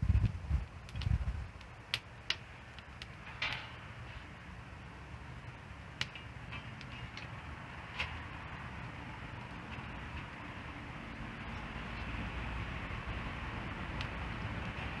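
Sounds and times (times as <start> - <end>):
campfire crackling: 0.0 - 15.0
fire hissing: 0.0 - 15.0.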